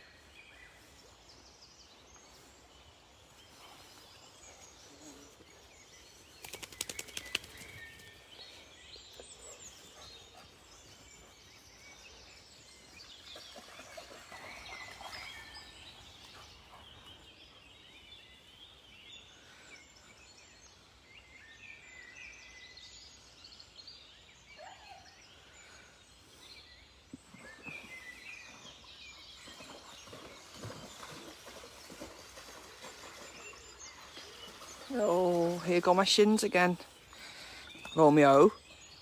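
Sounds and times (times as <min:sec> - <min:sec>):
small birds chirping and trilling: 0:00.0 - 0:39.0.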